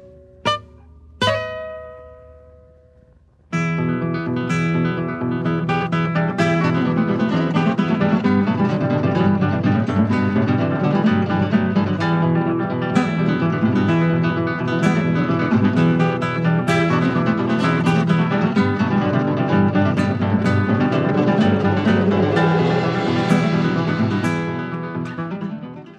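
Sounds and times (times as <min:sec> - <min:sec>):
acoustic guitar music: 0:00.0 - 0:25.9.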